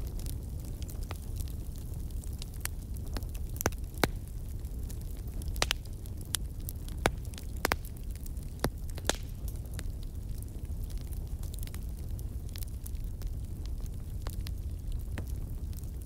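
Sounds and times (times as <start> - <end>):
fire popping and snapping: 0.0 - 16.0
fire rumbling: 0.0 - 16.0.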